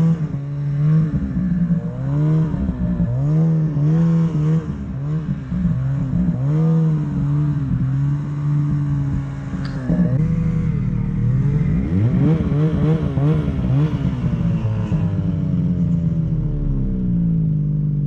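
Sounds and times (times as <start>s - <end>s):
snowmobile engine revving: 0.0s - 17.5s.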